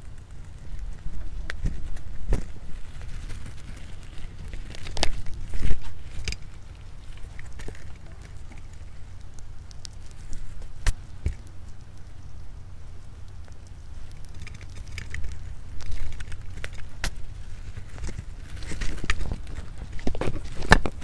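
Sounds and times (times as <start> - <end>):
rats scratching and pattering: 0.0 - 21.0.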